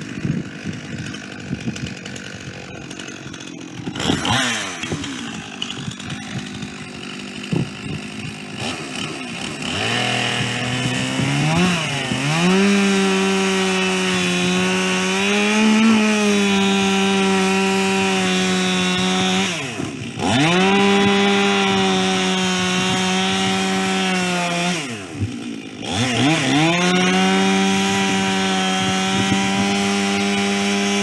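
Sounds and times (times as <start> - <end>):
chainsaw cutting through log: 0.0 - 31.0.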